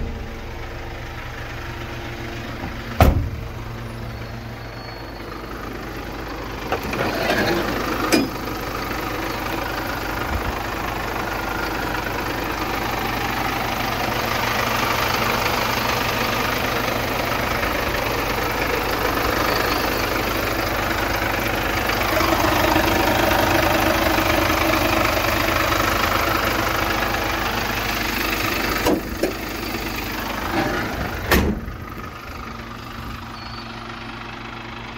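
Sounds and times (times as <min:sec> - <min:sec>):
diesel van engine running: 0:00.0 - 0:34.9.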